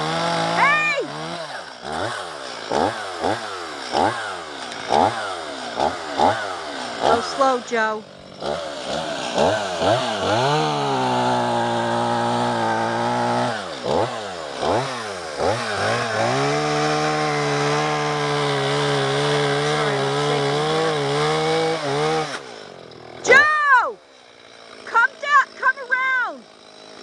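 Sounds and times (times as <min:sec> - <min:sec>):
chainsaw revving: 0:00.0 - 0:27.0.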